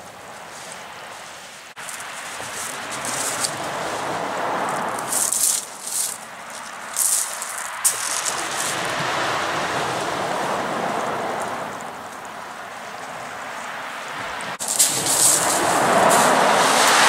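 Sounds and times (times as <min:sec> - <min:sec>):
waves washing on pebble beach: 0:00.4 - 0:17.0.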